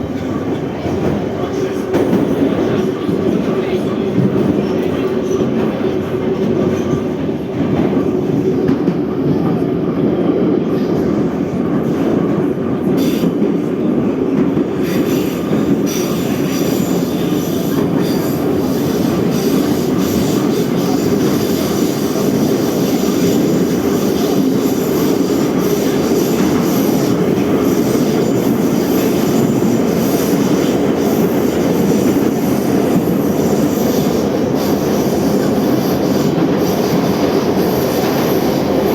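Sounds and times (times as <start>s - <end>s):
subway train wheels rumbling on rail: 0.0s - 38.9s.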